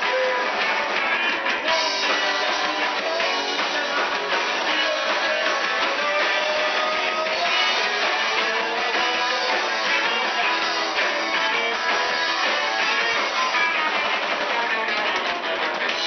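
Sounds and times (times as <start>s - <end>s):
drum kit beating: 0.0s - 16.0s
electric guitar strummed: 0.0s - 16.0s.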